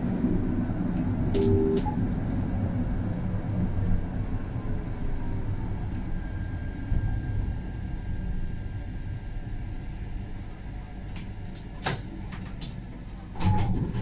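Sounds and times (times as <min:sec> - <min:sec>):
tram rumbling on rails: 0:00.0 - 0:14.0.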